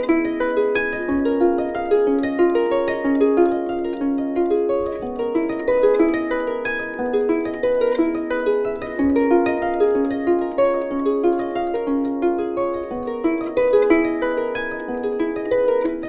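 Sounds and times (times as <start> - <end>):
solo harp music: 0.0 - 16.0.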